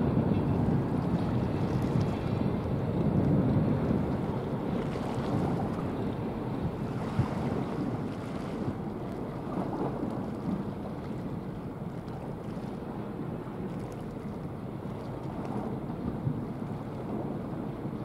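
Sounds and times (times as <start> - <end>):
passing ship rumble: 0.0 - 18.0
wind rumbling on microphone: 0.0 - 18.0.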